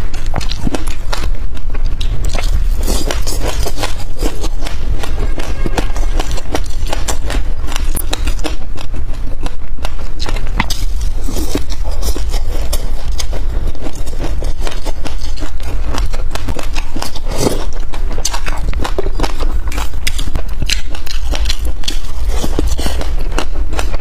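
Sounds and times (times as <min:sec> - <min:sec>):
crunchy chewing of seeds: 0:00.0 - 0:24.0
steady low hum: 0:00.0 - 0:24.0.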